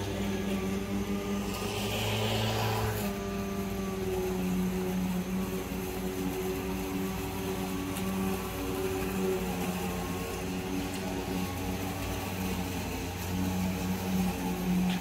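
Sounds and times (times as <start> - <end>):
electric lawn mower running: 0.0 - 15.0.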